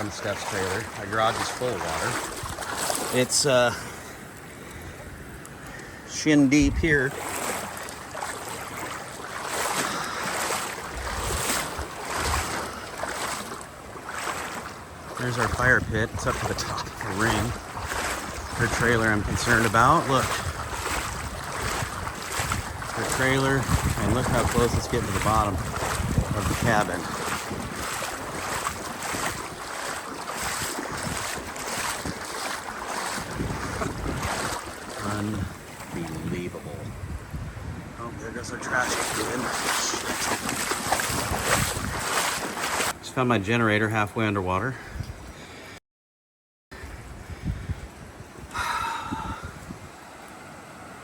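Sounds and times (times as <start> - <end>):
wind buffeting microphone: 0.0 - 4.0, 6.5 - 43.0, 46.8 - 50.1
floodwater rushing and splashing: 0.0 - 43.7
wading through water: 0.0 - 45.8.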